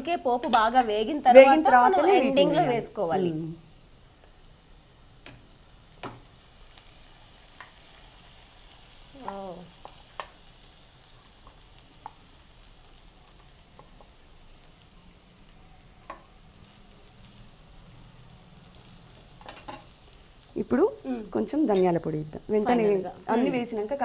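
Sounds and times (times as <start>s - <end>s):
noodles sizzling in pan: 0.0s - 24.0s.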